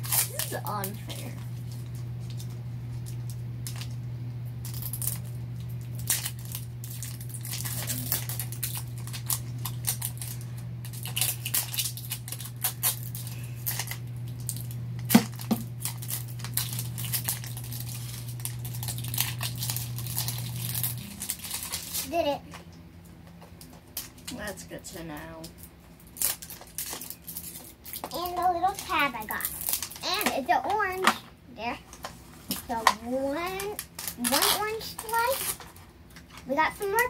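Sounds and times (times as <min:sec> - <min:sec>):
plastic wrapper crinkling: 0:00.0 - 0:04.0, 0:04.6 - 0:24.5, 0:25.4 - 0:31.2, 0:31.9 - 0:37.0
steady low hum: 0:00.0 - 0:37.0.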